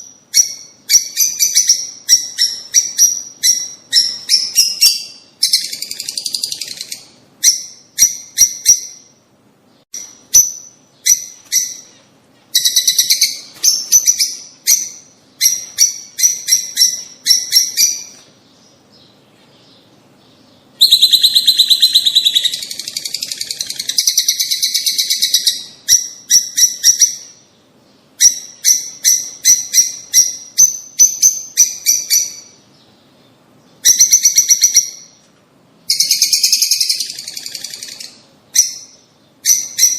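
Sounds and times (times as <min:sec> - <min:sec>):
birds chattering: 0:00.0 - 0:35.3, 0:35.9 - 0:39.9
lovebirds chirping: 0:00.0 - 0:39.9.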